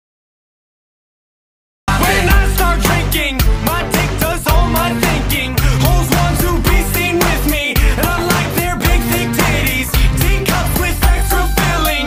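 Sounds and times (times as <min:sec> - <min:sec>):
music with heavy bass: 0:01.9 - 0:12.0.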